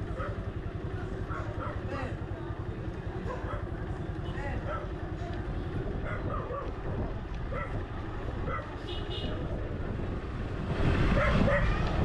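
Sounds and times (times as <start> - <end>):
people's voices: 0.0 - 10.2
low traffic engine rumble: 0.0 - 12.0.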